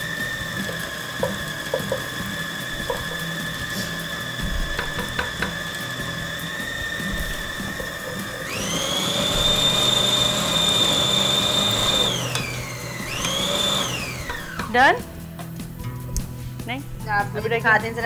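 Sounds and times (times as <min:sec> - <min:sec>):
food chopper motor whining: 0:00.0 - 0:15.1.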